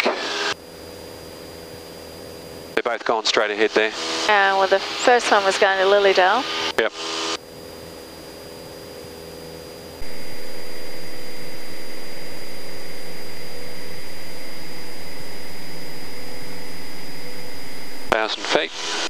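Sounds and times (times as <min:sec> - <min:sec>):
airplane engine and propeller droning: 0:00.0 - 0:19.0.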